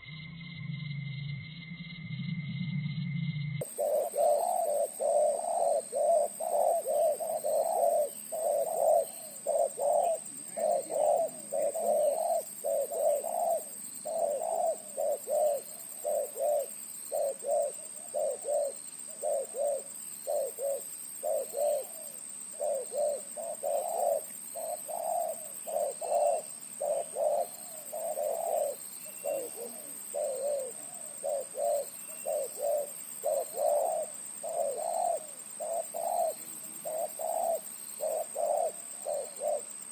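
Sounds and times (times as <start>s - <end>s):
dove cooing: 3.6s - 39.9s.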